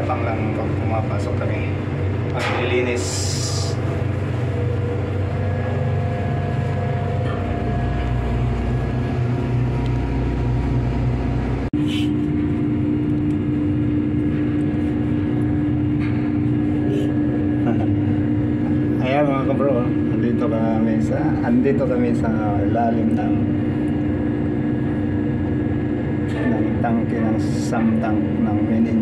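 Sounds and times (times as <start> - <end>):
ship machinery droning: 0.0 - 29.0.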